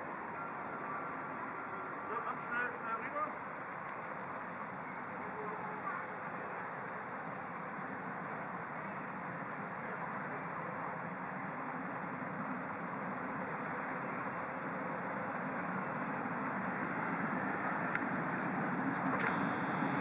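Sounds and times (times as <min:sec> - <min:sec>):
miniature steam train rumbling: 0:00.0 - 0:20.0.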